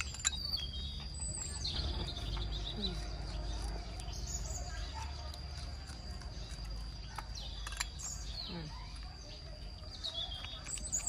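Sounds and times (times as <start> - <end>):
low background rumble: 0.0 - 10.6
birds chirping: 0.0 - 11.0.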